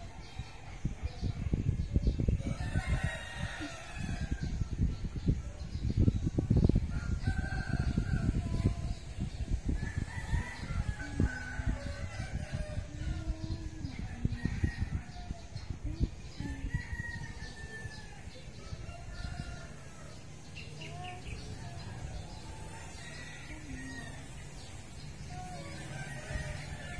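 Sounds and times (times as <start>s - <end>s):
roosters crowing: 2.4s - 4.7s, 6.8s - 26.9s.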